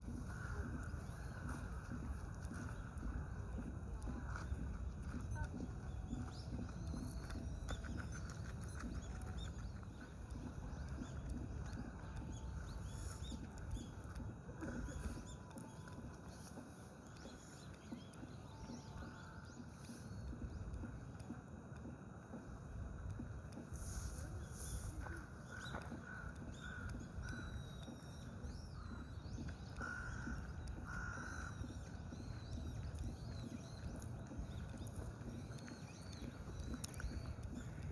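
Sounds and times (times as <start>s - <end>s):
small birds chirping: 0.0s - 37.9s
steady low rumble: 0.0s - 37.9s.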